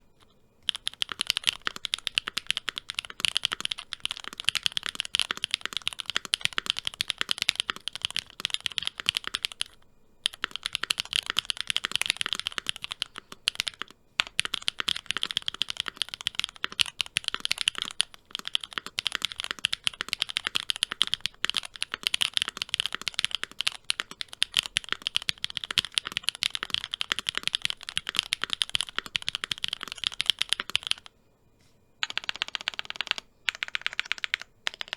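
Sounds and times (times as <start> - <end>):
mechanical keyboard typing: 0.6 - 31.1, 32.0 - 34.9.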